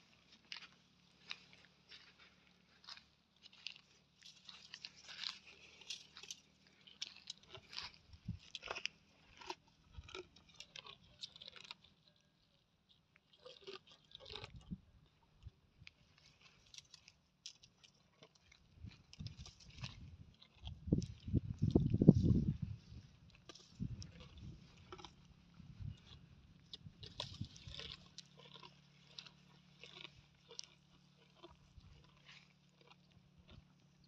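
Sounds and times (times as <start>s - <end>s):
camel chewing leaves and twigs: 0.0s - 34.0s.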